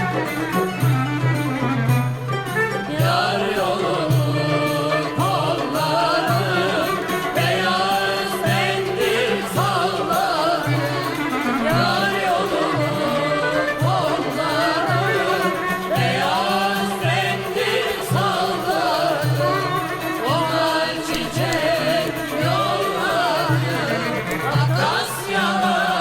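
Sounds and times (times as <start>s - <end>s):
person singing verses: 2.9s - 26.0s.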